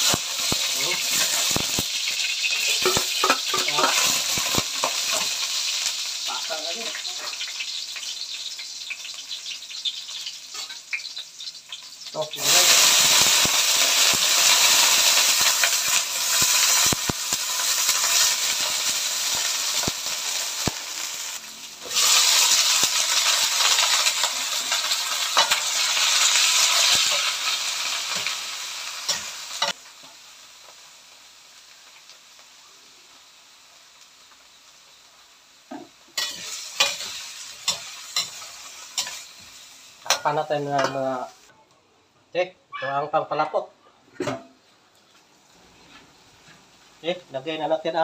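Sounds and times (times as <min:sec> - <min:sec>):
vegetables sizzling in hot oil: 0:00.0 - 0:41.5, 0:44.5 - 0:48.0.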